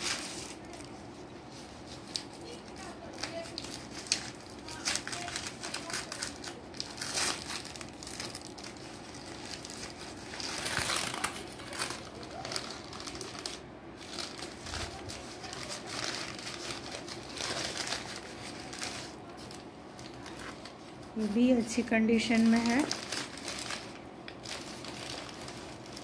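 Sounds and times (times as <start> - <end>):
paper and plastic crinkling: 0.0 - 26.0.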